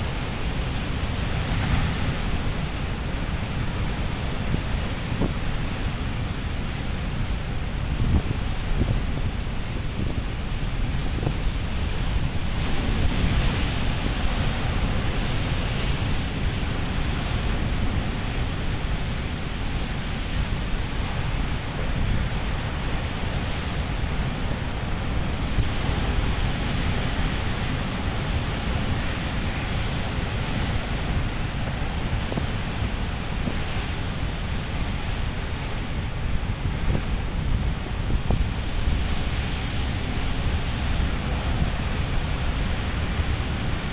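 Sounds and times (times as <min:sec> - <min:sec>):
surf breaking on rocky shore: 0:00.0 - 0:43.9
wind buffeting microphone: 0:00.0 - 0:43.9.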